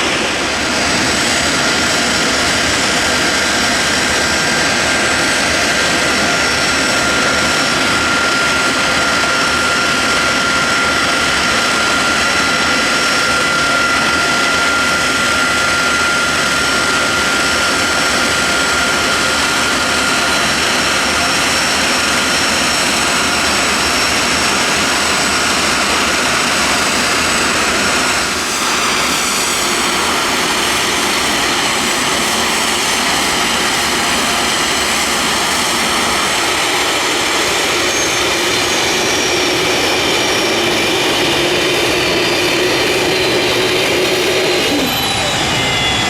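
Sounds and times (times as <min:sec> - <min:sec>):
jet engines roaring in flight: 0:00.0 - 0:46.0
high whining tones: 0:04.9 - 0:46.0.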